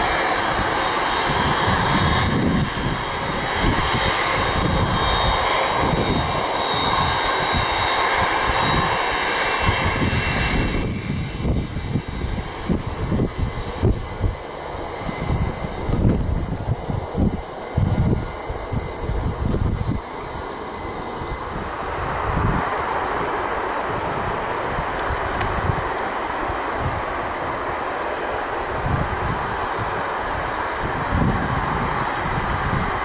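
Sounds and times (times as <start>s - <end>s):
high jet whine: 0.0s - 33.0s
jet engine rush: 0.0s - 33.0s.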